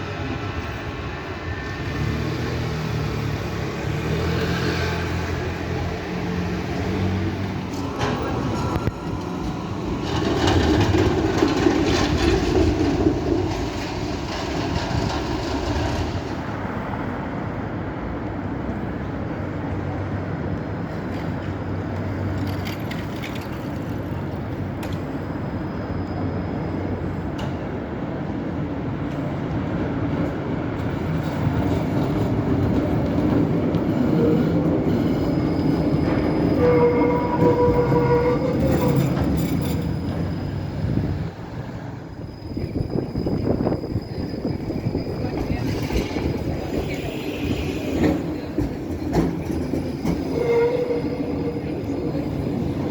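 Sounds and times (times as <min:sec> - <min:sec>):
tram rumbling on rails: 0:00.0 - 0:52.9.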